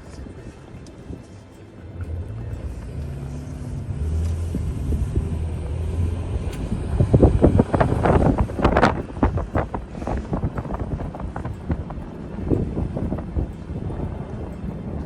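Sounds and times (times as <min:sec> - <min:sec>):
car engine and road drone: 0:00.0 - 0:15.0
rumbling buffets: 0:00.0 - 0:15.0.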